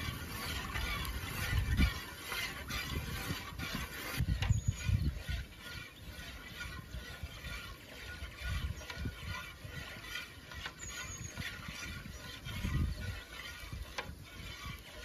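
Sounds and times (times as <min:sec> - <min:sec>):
metal ladle scraping a pot: 0:00.0 - 0:15.0.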